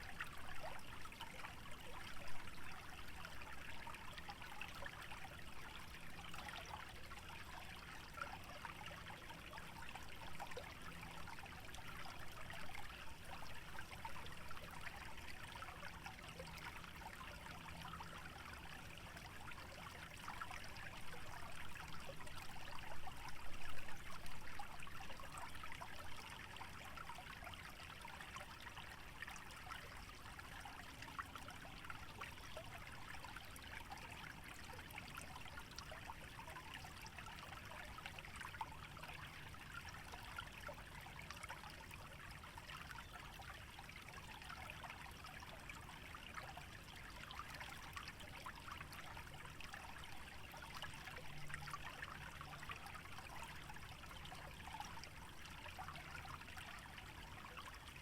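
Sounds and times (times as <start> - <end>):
shallow stream trickling: 0.0 - 58.0.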